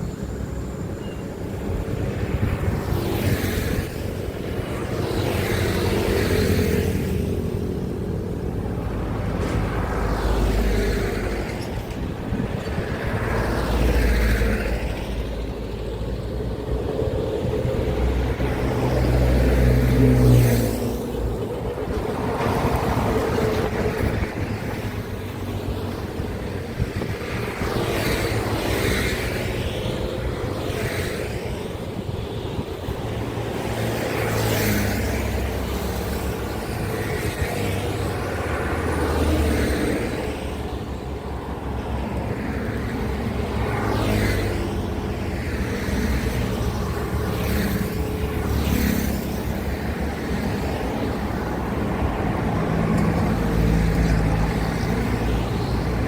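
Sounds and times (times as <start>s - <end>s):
heavy trucks passing on highway: 0.0s - 56.0s.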